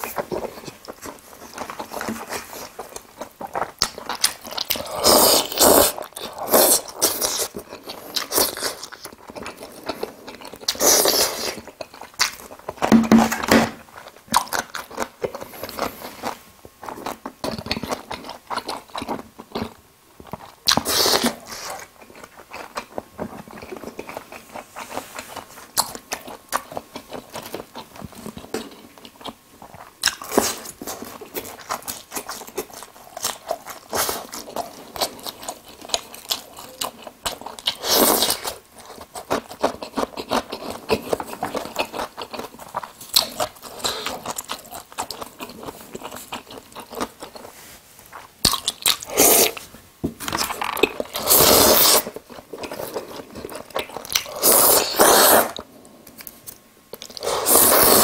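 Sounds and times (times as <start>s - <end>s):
wet chewing of noodles: 0.0s - 13.0s, 13.8s - 49.7s, 50.3s - 58.0s.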